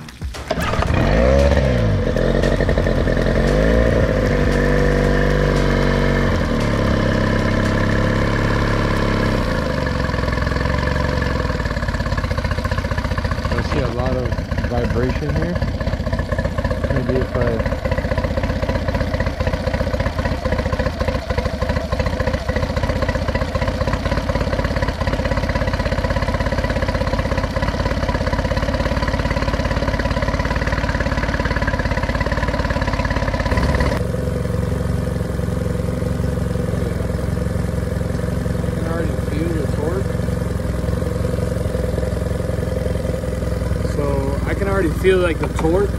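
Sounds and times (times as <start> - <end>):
outboard engine running: 0.0 - 45.9.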